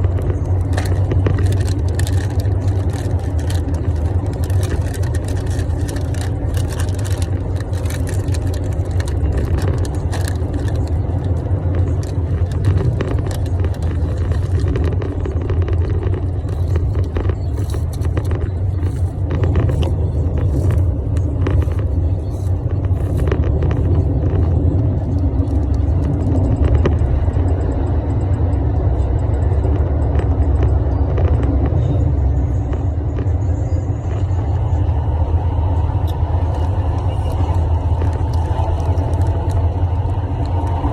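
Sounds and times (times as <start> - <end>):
car cabin rumble: 0.0 - 40.9.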